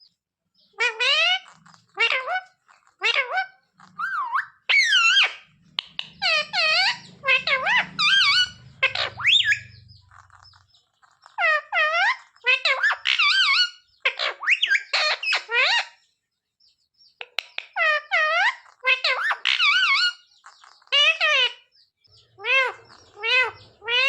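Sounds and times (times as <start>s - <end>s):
parrot high-pitched calls: 0.6s - 16.0s, 17.5s - 24.0s.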